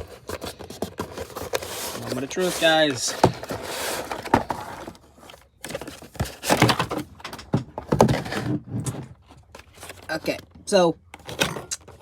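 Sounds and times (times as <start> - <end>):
packaging scraping and rustling: 0.0 - 10.5.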